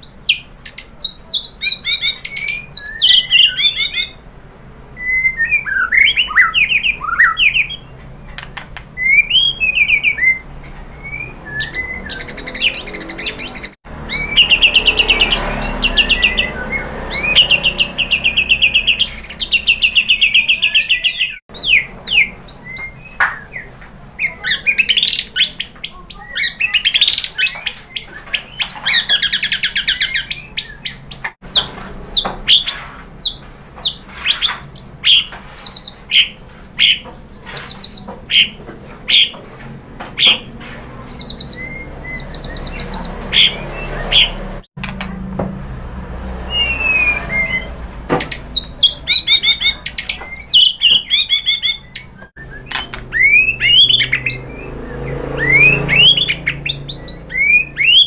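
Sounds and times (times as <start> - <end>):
bird singing trills and whistles: 0.0 - 4.2, 5.0 - 44.6, 46.4 - 58.0.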